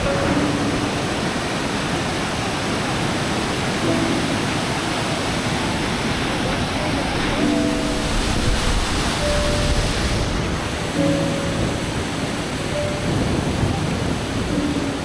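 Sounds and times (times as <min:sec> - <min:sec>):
faint music with held notes: 0:00.0 - 0:15.0
waterfall roaring: 0:00.0 - 0:15.0.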